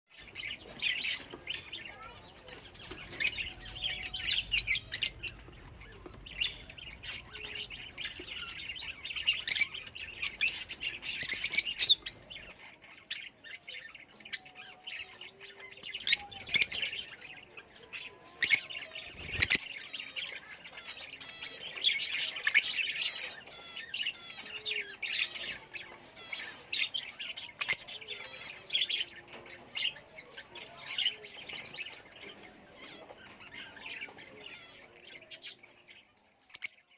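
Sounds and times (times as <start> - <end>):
lovebirds chirping: 0.1 - 36.9.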